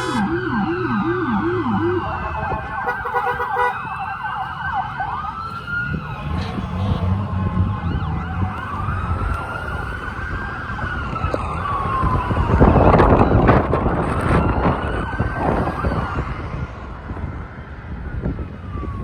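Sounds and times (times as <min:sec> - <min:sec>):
emergency sirens wailing: 0:00.0 - 0:19.0
vehicle engines rumbling: 0:00.0 - 0:19.0.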